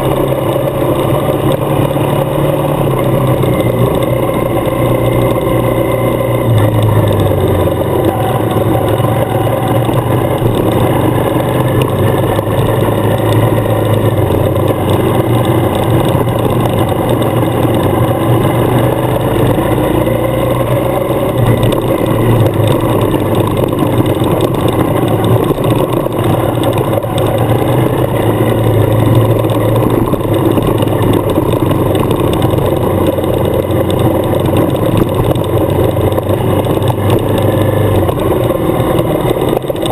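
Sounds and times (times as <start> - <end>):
motorcycle engine running: 0.0 - 39.9
road noise rushing: 0.0 - 39.9.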